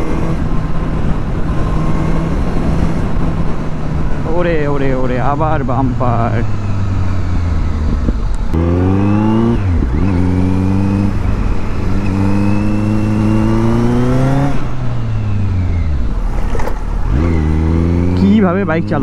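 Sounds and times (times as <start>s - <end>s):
wind noise: 0.0s - 18.3s
motorcycle engine revving: 0.0s - 19.0s.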